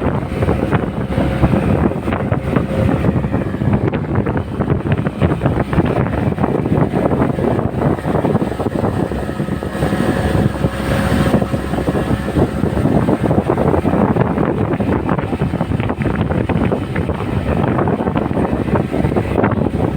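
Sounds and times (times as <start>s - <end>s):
speedboat motor running: 0.0s - 19.9s
wind buffeting microphone: 0.0s - 19.9s.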